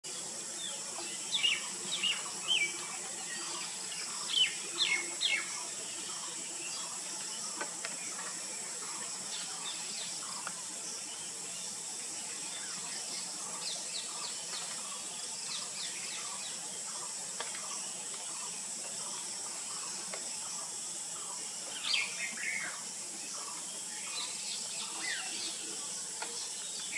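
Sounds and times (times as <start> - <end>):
steady high hiss: 0.0 - 26.9.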